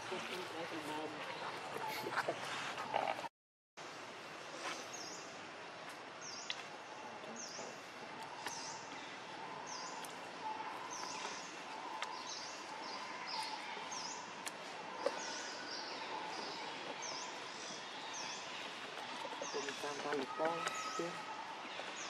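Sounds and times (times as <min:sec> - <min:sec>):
steady background hiss: 0:03.8 - 0:22.0.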